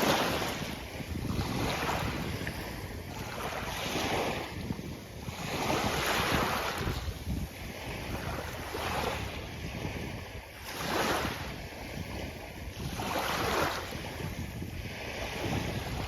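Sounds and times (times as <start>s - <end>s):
sea waves washing onto beach: 0.0s - 16.0s
wind rumble on microphone: 0.0s - 16.0s.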